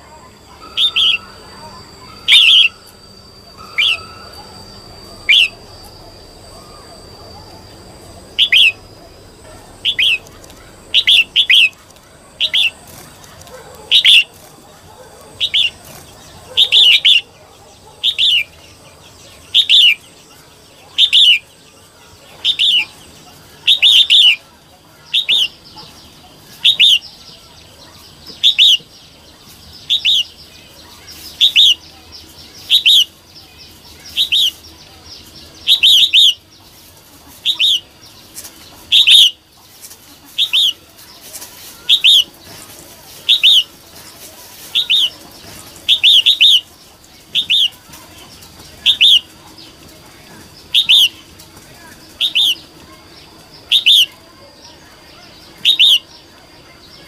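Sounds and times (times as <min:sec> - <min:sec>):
bulbul calling: 0:00.0 - 0:56.3.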